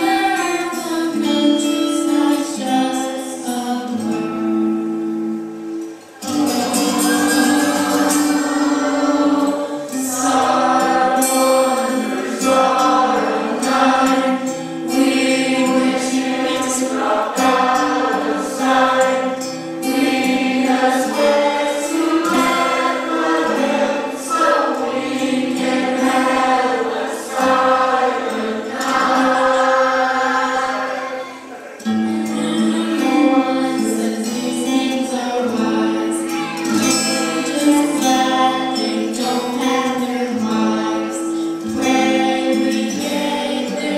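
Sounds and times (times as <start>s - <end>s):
group of voices singing: 0.0s - 4.4s, 6.2s - 43.9s
musical accompaniment: 0.0s - 43.9s.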